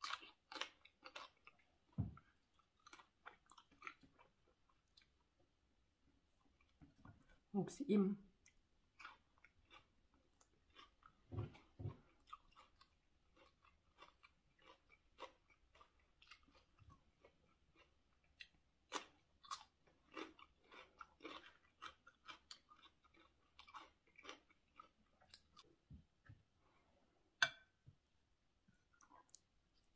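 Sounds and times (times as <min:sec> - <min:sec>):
person chewing: 0:00.0 - 0:05.3, 0:06.4 - 0:07.4, 0:08.4 - 0:25.8, 0:28.8 - 0:29.9.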